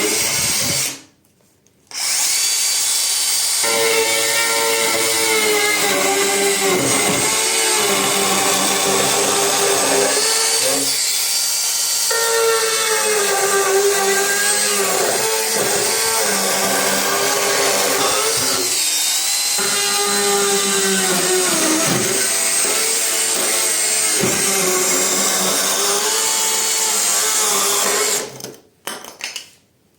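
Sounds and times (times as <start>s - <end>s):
saw cutting chipboard: 1.9s - 28.3s.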